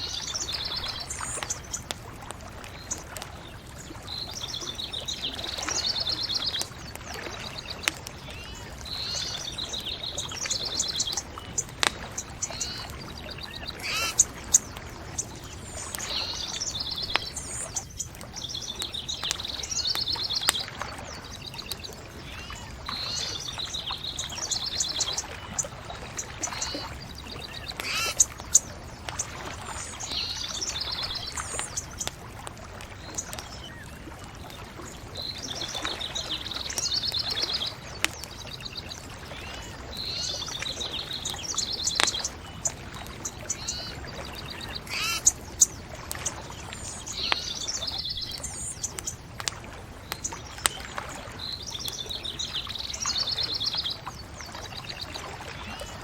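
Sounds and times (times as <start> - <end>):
songbirds singing trilled phrases: 0.0 - 2.0, 2.7 - 32.2, 32.9 - 56.0
bonfire crackling and popping: 0.2 - 52.7.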